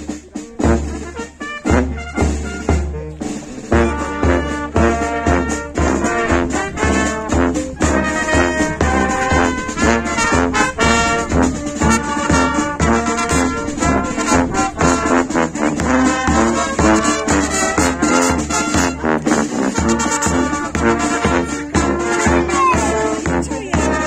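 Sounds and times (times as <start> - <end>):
bass drum beat: 0.0 - 24.0
brass band playing a march: 0.0 - 24.0.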